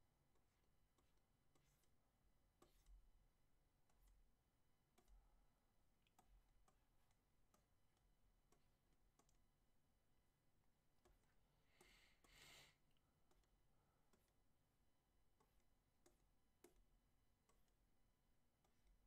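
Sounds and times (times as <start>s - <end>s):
stylus clicking on drawing tablet: 0.1s - 19.0s.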